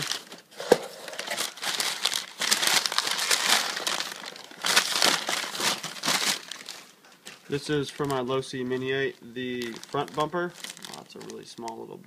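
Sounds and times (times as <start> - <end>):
packing paper crumpling: 0.0 - 11.9.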